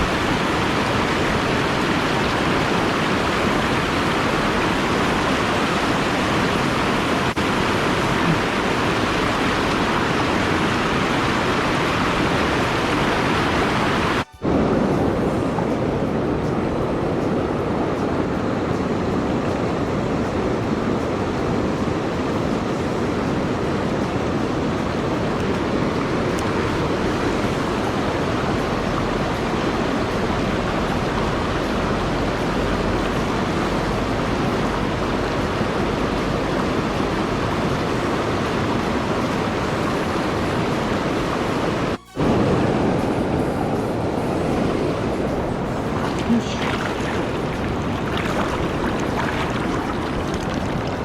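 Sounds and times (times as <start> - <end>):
fast-flowing river water: 0.0 - 51.0.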